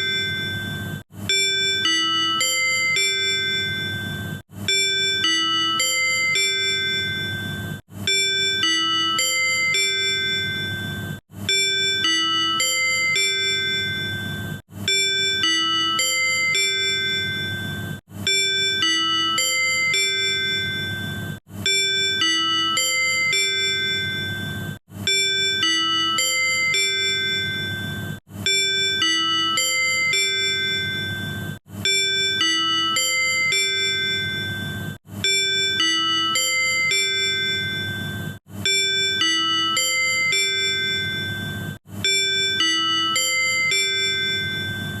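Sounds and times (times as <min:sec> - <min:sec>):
ding-dong chime melody: 0:00.0 - 0:45.0
steady low hum: 0:00.0 - 0:45.0.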